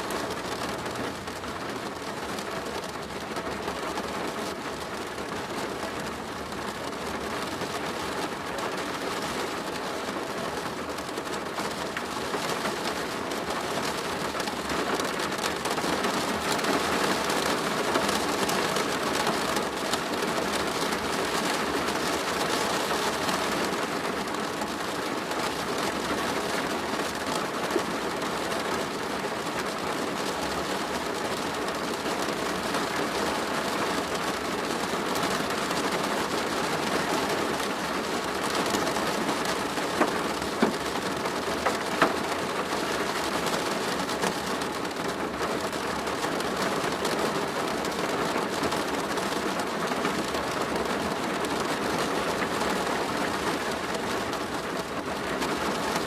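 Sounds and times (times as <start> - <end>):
rain on a plastic roof: 0.0 - 56.0.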